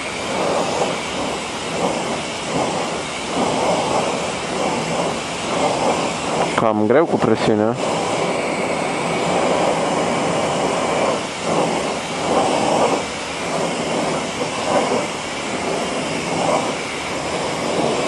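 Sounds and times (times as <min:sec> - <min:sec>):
pressure washer spraying water: 0:00.0 - 0:18.0.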